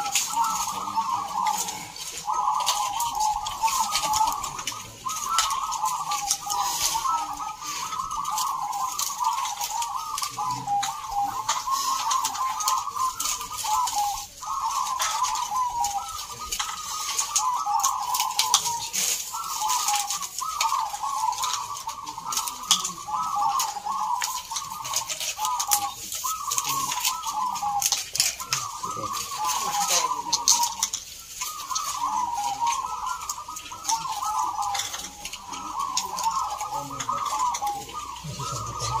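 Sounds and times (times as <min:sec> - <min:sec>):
doves cooing: 0:00.0 - 0:39.0.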